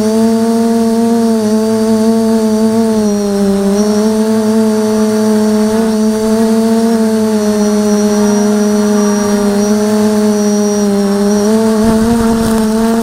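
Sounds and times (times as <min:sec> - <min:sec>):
drone propellers droning: 0:00.0 - 0:13.0.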